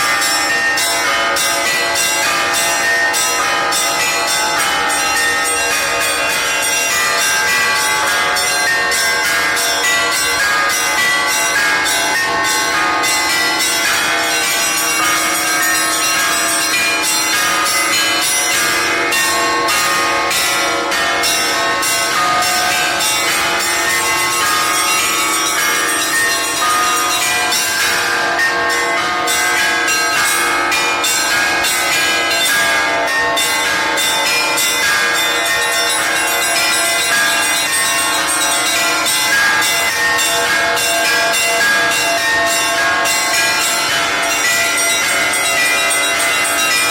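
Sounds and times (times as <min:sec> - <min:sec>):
church bells ringing rapidly: 0:00.0 - 0:46.9.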